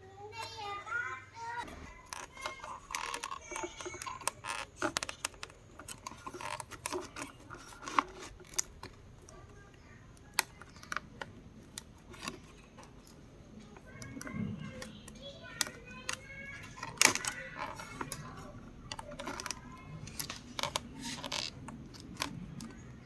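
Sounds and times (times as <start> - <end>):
small tools clicking and tapping: 1.6 - 23.0.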